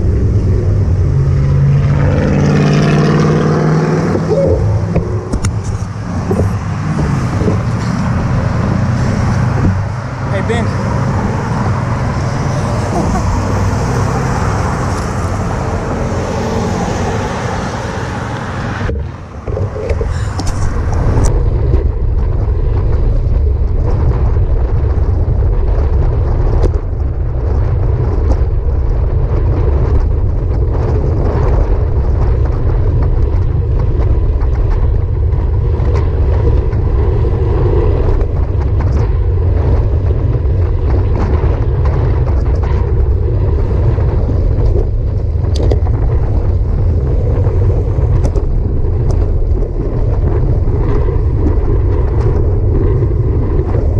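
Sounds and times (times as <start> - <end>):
road traffic passing: 0.0 - 53.9
wind buffeting microphone: 0.0 - 53.9.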